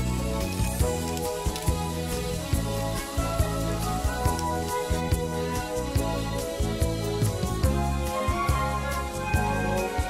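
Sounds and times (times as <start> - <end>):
instrumental music with soft beat: 0.0 - 10.0.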